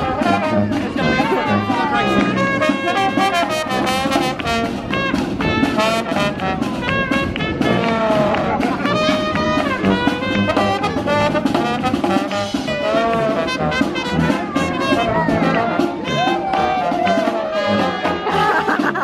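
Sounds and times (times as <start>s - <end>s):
jazz brass music: 0.0s - 19.0s.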